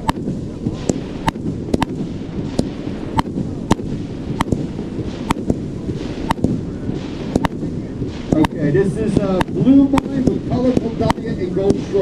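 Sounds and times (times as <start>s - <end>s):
fireworks sharp reports: 0.0s - 12.0s
steady low rumble: 0.0s - 12.0s.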